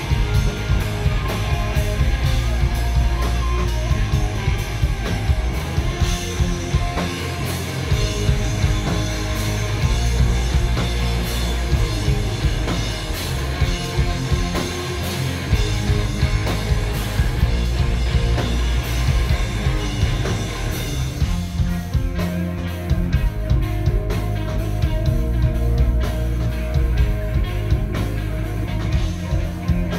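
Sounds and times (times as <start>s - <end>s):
distorted electric guitars: 0.0s - 29.9s
drum kit: 0.0s - 29.9s.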